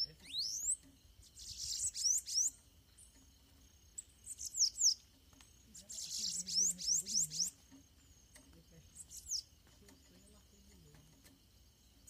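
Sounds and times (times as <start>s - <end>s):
birds singing buzzy notes: 0.0s - 12.0s.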